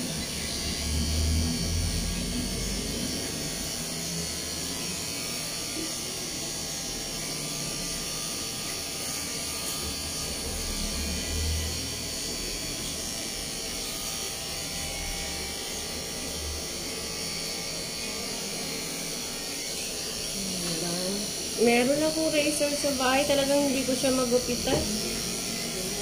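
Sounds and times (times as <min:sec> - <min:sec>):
electric pet clipper running: 0:00.0 - 0:26.0.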